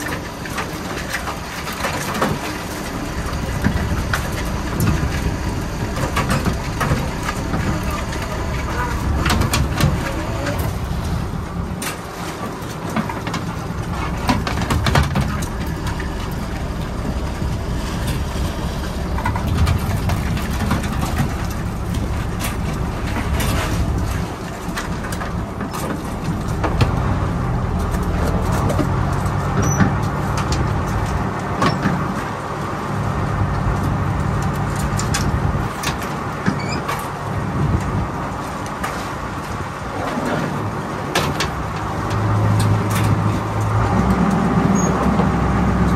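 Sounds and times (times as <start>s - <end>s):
boat engine running: 0.0s - 45.9s
water washing along hull: 0.0s - 45.9s.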